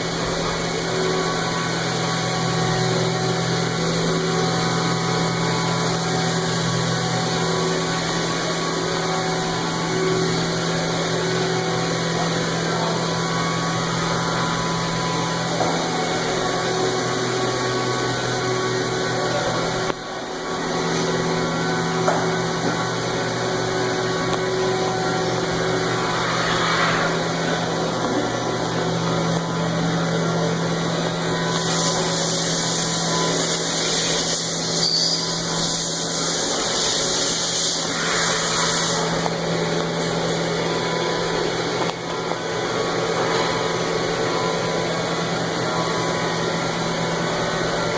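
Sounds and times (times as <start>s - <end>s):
machine mechanical hum: 0.0s - 47.9s.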